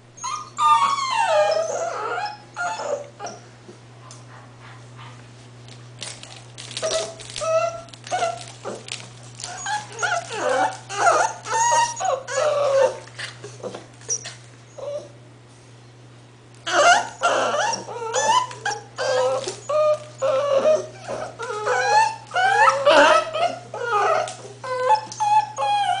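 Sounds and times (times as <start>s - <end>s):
puppies whimpering and yipping: 0.2s - 3.4s, 6.8s - 15.2s, 16.7s - 26.0s.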